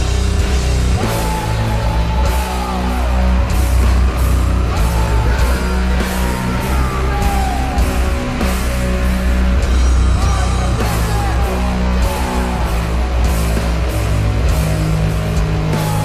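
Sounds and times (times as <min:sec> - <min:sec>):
electric guitar lead sliding: 0:00.0 - 0:16.0
heavy rock music: 0:00.0 - 0:16.0.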